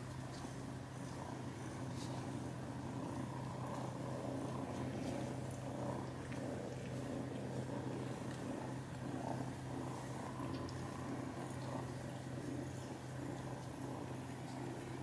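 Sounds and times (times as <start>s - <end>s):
cats purring: 0.0s - 15.0s.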